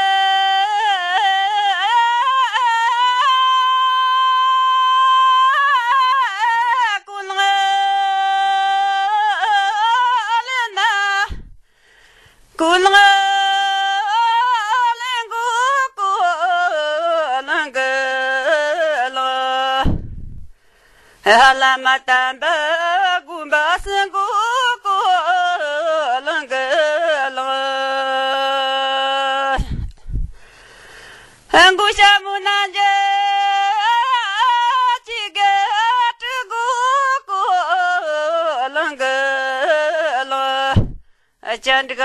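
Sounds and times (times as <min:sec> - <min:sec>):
woman singing unaccompanied: 0:00.0 - 0:11.5, 0:12.6 - 0:20.2, 0:21.2 - 0:30.0, 0:31.5 - 0:42.0.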